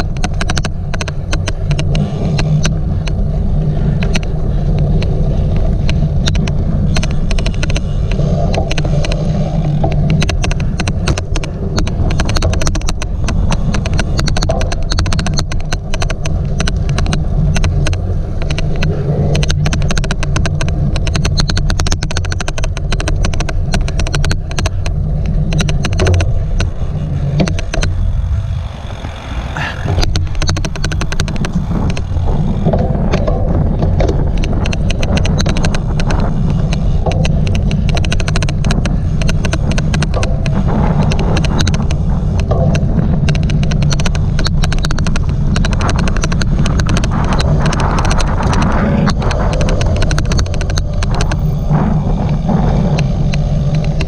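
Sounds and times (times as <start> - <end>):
bike rumbling over rough ground: 0.0 - 54.0
rapid loud clicking: 0.0 - 54.0.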